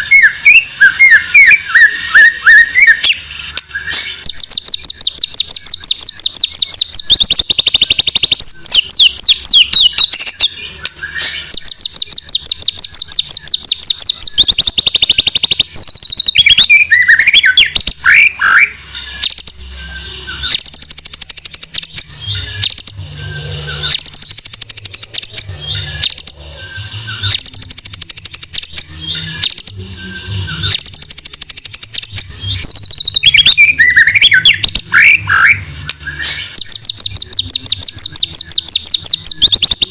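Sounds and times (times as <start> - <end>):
bird gliding whistles: 0.0 - 39.9
bird trilling and chattering: 0.0 - 39.9.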